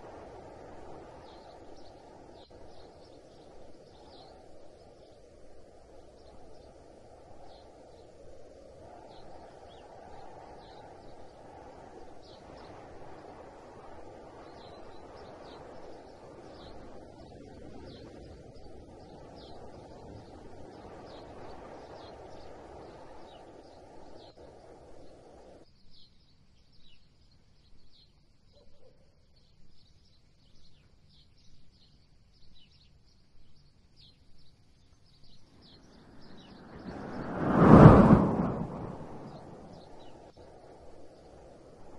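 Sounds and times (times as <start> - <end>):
bird chirping: 1.2 - 5.3, 9.0 - 40.3.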